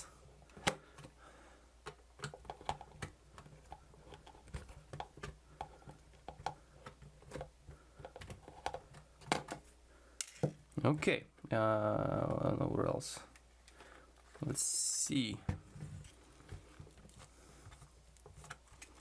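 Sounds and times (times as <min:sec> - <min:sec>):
plastic parts handled: 0:00.0 - 0:14.7, 0:15.4 - 0:19.0.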